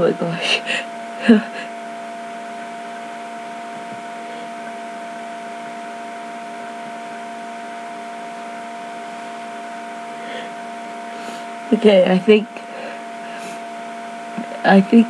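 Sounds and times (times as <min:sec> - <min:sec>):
electrical hum with thin whine: 0:00.0 - 0:15.0
steady background hiss: 0:00.0 - 0:15.0.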